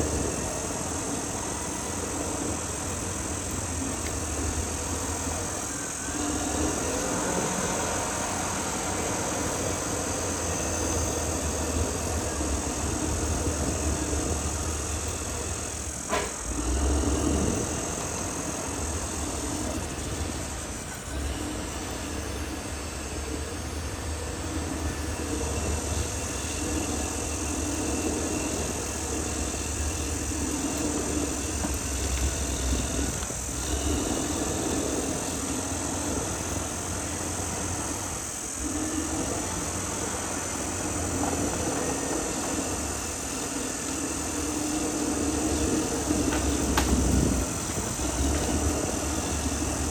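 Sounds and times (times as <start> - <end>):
bulldozer diesel engine running: 0.0 - 49.9
steel tracks working: 0.0 - 49.9.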